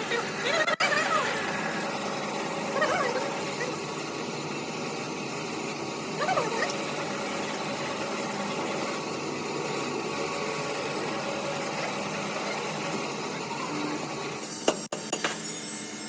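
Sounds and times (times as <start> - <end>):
machine engine-like hum: 0.0 - 14.5.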